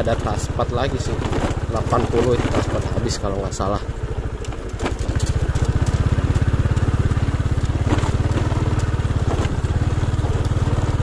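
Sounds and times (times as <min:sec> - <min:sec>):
motorcycle engine chugging: 0:00.0 - 0:11.0
tyres crunching on gravel: 0:00.0 - 0:11.0.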